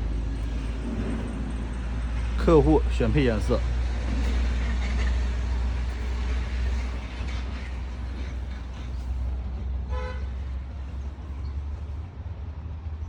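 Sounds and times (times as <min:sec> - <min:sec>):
diesel truck engine idling: 0:00.0 - 0:13.0
outdoor noise: 0:00.0 - 0:13.0.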